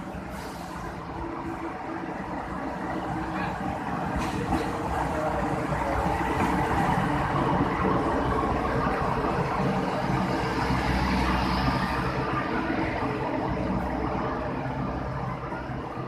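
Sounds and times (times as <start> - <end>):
train engine hum: 0.0 - 16.0
train rolling rumble: 0.0 - 16.0.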